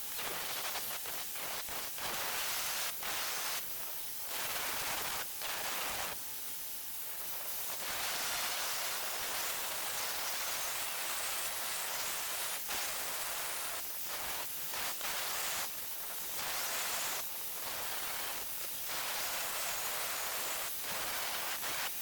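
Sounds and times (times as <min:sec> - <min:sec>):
welding arc hissing: 0:00.0 - 0:22.0.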